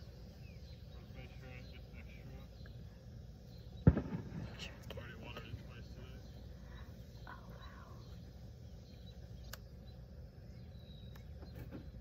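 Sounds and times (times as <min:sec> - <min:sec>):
bird chirp: 0:00.0 - 0:12.0
insects: 0:00.0 - 0:12.0.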